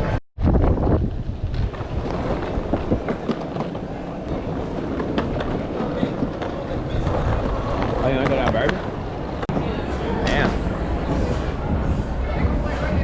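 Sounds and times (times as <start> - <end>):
skateboard wheels rolling on pavement: 0.0 - 13.0
wind buffeting microphone: 0.0 - 13.0.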